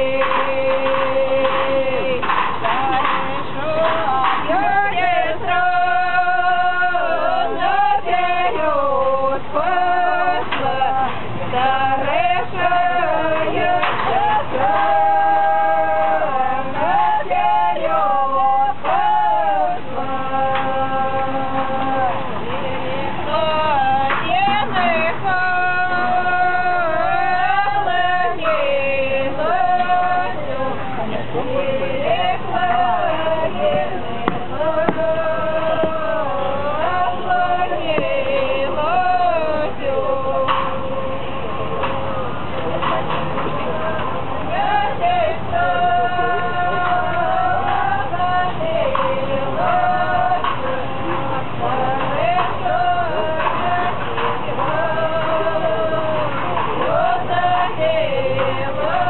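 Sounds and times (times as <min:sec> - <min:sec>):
drone-like chant singing: 0:00.0 - 0:59.0.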